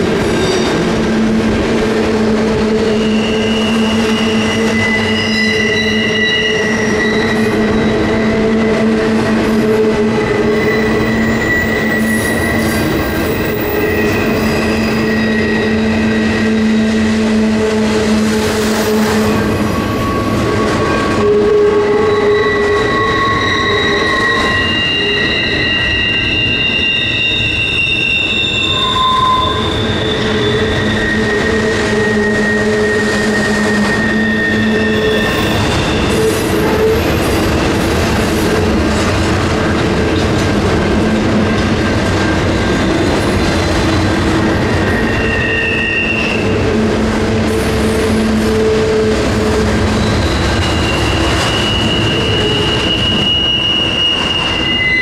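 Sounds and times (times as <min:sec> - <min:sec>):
wheels rumbling on rails: 0:00.0 - 0:55.0
train wheels squealing: 0:00.2 - 0:00.8, 0:02.8 - 0:17.2, 0:18.2 - 0:39.1, 0:41.5 - 0:55.0.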